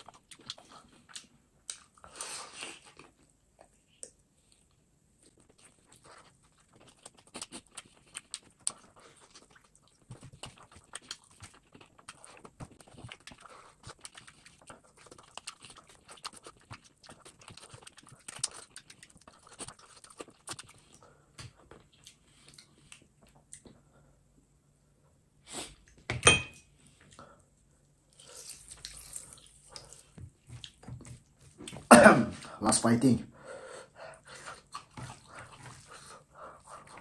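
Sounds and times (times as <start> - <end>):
wet chewing and lip-smacking: 0.0 - 23.9, 28.1 - 31.9, 34.1 - 37.0.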